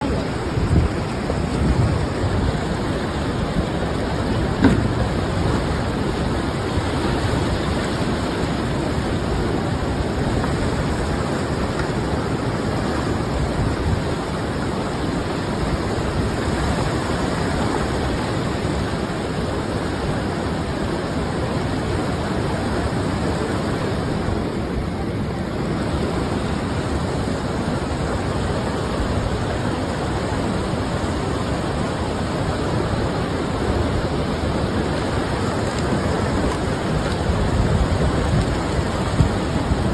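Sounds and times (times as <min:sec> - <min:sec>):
heavy rain: 0:00.0 - 0:39.9
rushing floodwater: 0:00.0 - 0:39.9.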